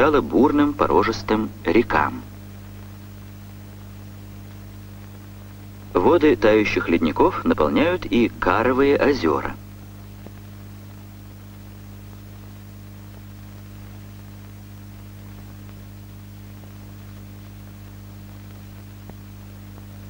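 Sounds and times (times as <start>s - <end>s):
constant hiss: 0.0s - 20.0s
electrical hum: 0.0s - 20.0s.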